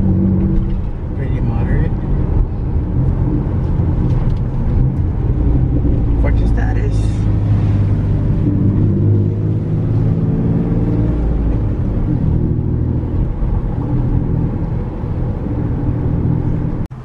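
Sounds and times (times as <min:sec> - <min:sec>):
low exhaust drone: 0:00.0 - 0:17.0.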